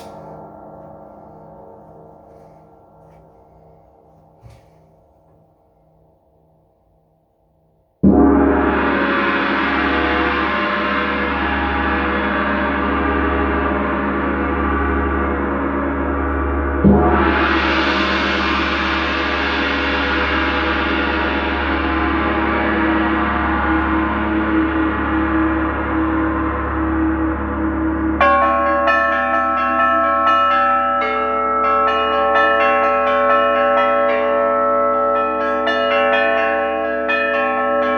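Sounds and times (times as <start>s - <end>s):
gong struck and ringing: 0.0s - 4.6s, 8.0s - 37.9s.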